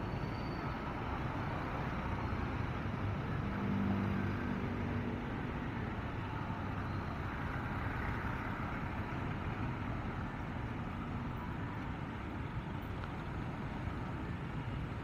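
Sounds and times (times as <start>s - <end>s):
surrounding car traffic: 0.0s - 15.0s
wind: 0.0s - 15.0s.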